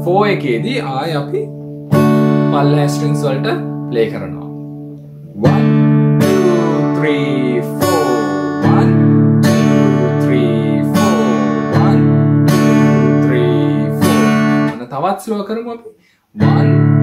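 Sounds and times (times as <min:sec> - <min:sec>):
acoustic guitar strummed: 0:00.0 - 0:14.8, 0:16.4 - 0:17.0.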